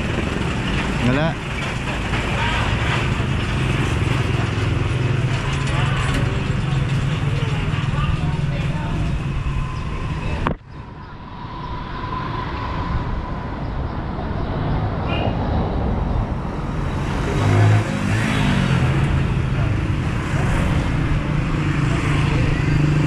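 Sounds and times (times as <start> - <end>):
engine passing loudly: 0.0 - 23.0
small motorcycle engines in traffic: 0.0 - 23.0.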